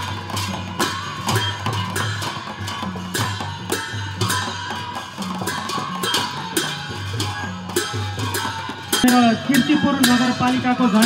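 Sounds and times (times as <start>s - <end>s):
drum beats: 0.0s - 11.0s
sharp percussion strikes: 0.0s - 11.0s.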